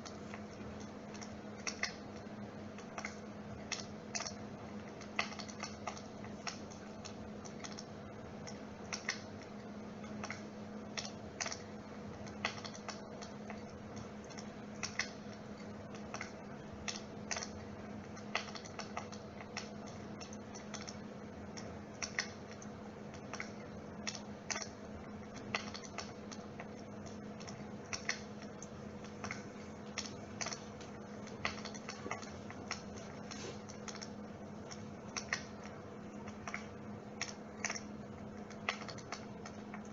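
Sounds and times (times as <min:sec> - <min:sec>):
humidifier humming: 0:00.0 - 0:39.9
sharp crackling clicks: 0:00.0 - 0:39.9.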